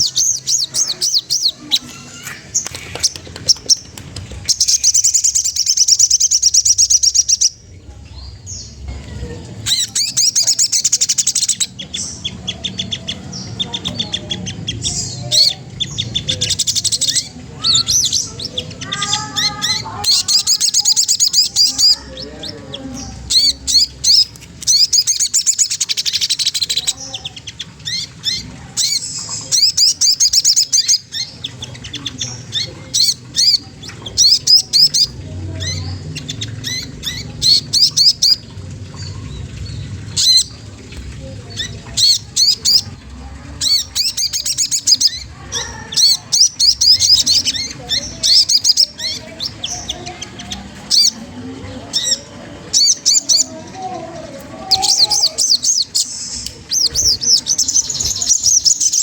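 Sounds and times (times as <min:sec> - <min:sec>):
bird chattering chirps: 0:00.0 - 0:43.0, 0:43.6 - 0:59.0.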